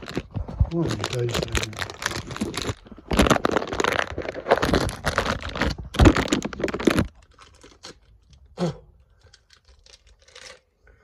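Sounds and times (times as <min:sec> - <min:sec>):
rustling and crinkling handling noise: 0:00.0 - 0:10.7.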